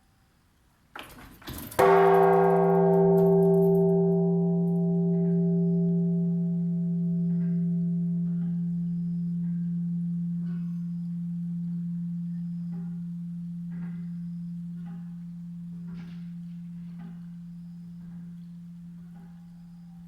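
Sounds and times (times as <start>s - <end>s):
large bell humming: 1.8s - 20.0s.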